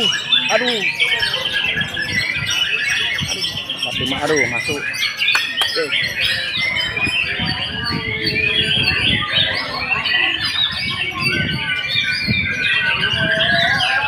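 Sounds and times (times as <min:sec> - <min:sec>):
bird whistling and chattering: 0:00.0 - 0:14.0
other birds singing: 0:00.0 - 0:14.0.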